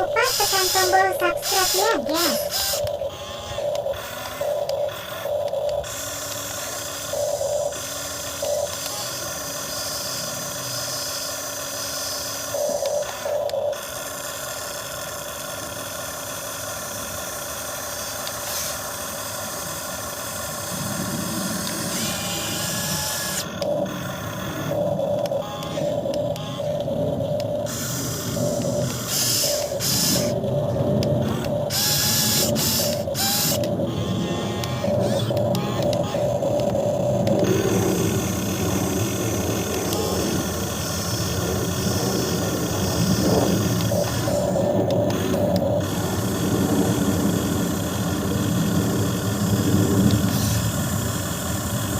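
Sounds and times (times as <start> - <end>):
model excavator motors whining: 0.0 - 51.9.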